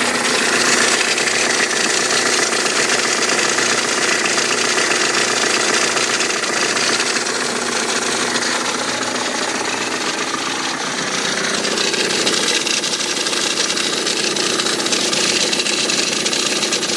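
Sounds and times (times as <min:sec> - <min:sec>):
abnormal mechanical engine noise: 0:00.0 - 0:16.9
diesel engine idling: 0:00.0 - 0:16.9.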